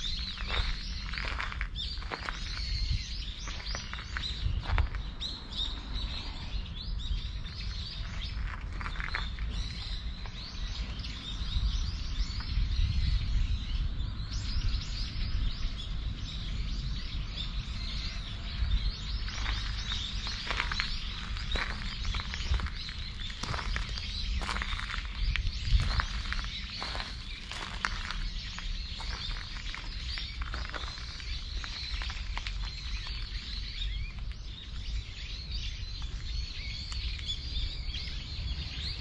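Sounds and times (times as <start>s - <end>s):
small birds chirping: 0.0s - 39.0s
steady low rumble: 0.0s - 39.0s.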